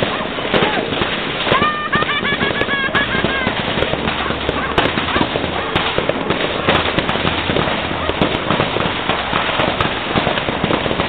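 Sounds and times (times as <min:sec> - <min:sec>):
fireworks popping and crackling: 0:00.0 - 0:11.0.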